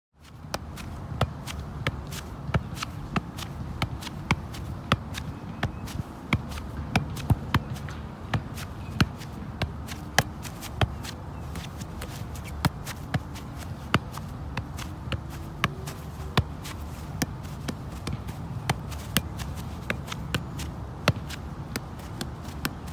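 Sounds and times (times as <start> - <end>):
soccer ball thudding on foot: 0.2 - 22.9.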